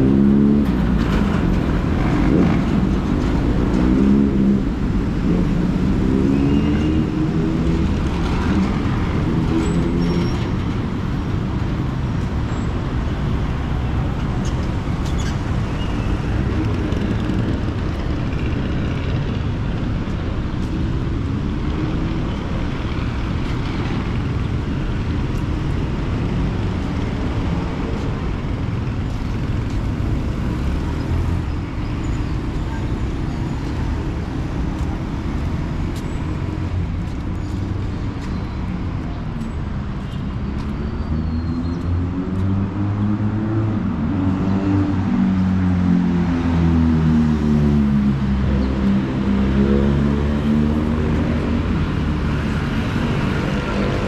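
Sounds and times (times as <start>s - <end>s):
road rumble: 0.0s - 54.0s.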